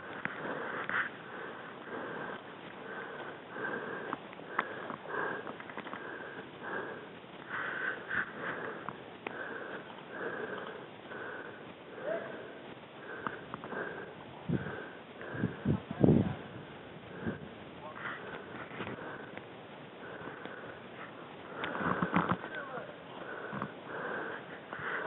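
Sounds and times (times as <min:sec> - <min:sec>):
heavy breathing: 0:00.0 - 0:25.0.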